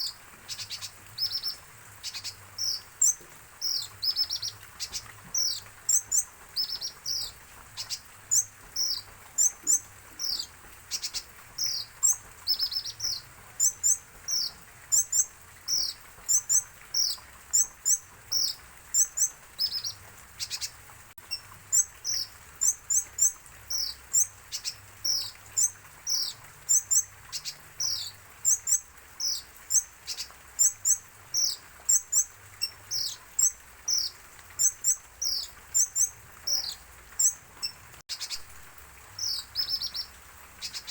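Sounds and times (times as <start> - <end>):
sunbird chirping: 0.0 - 38.5, 39.1 - 40.9.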